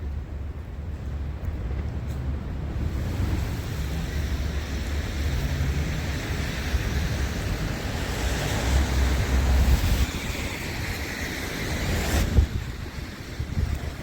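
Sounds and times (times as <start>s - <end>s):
storm wind buffeting microphone: 0.0s - 14.0s.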